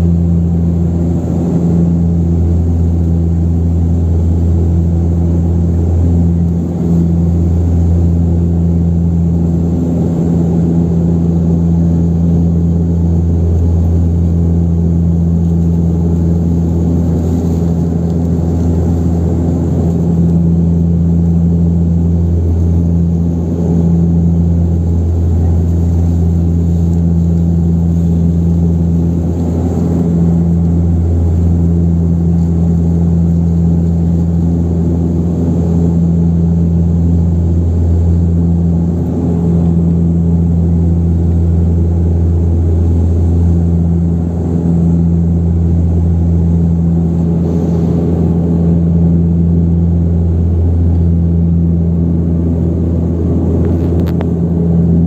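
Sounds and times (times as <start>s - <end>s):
propeller engines droning: 0.0s - 55.0s.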